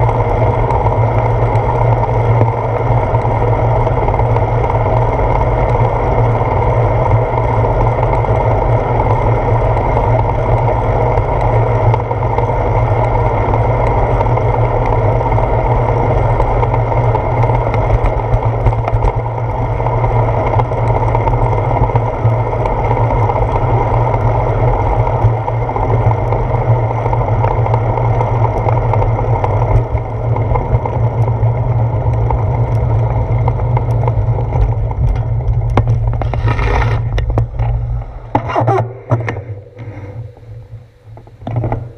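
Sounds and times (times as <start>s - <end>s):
bicycle road vibration: 0.0s - 41.9s
wind rumble: 0.0s - 41.9s.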